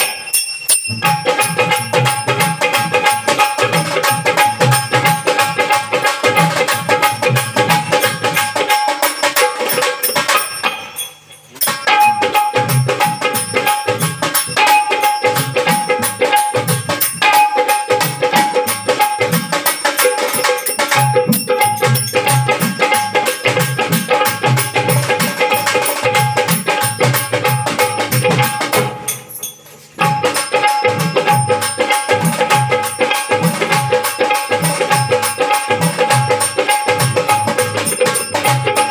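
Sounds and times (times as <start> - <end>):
hand drums beating: 0.0 - 38.9
jingling percussion: 0.0 - 38.9.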